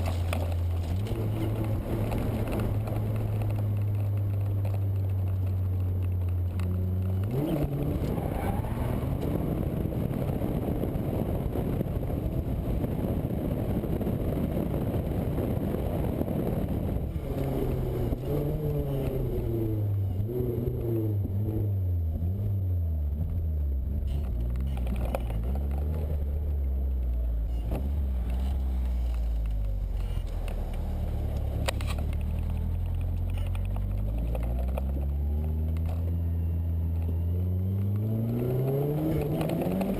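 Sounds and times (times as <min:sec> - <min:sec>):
car engine revving: 0:00.0 - 0:13.8, 0:16.0 - 0:39.9.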